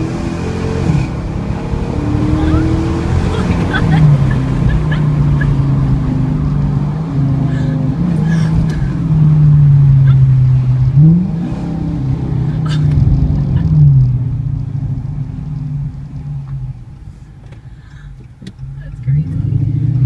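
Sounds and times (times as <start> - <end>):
car engine revving loudly: 0.0 - 16.0, 18.8 - 20.0.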